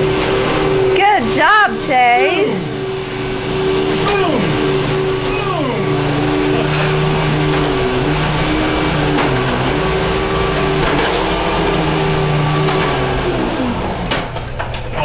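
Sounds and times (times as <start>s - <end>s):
vacuum cleaner motor humming: 0.0s - 14.5s.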